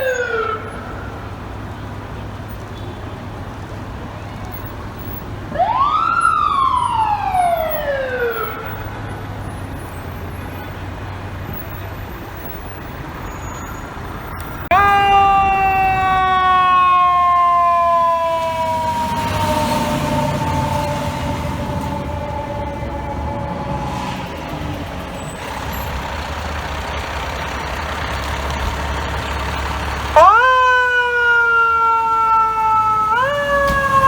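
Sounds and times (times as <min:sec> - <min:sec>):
fire truck siren wailing: 0:00.0 - 0:02.1, 0:03.6 - 0:13.3, 0:14.0 - 0:34.0
traffic and engine rumble: 0:00.0 - 0:34.0.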